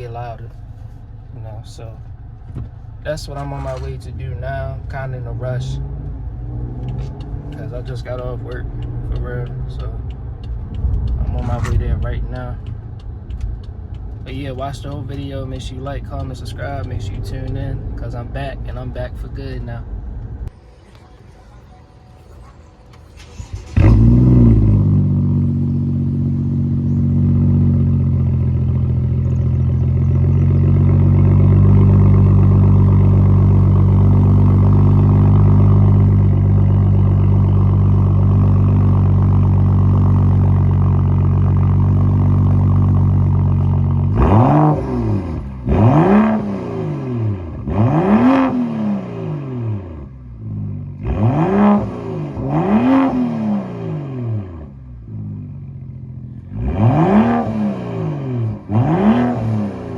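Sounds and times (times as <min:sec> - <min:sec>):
car engine revving: 0:00.0 - 0:59.9
car engine starting: 0:00.0 - 0:59.9.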